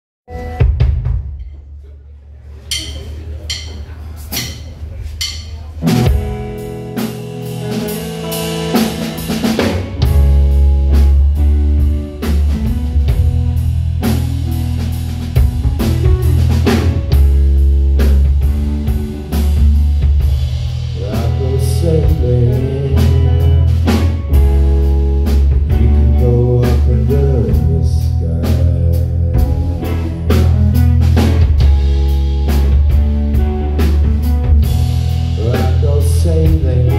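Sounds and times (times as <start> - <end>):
drum kit: 0.3 - 36.9
electric bass: 0.3 - 36.9
electric guitar: 5.8 - 36.9.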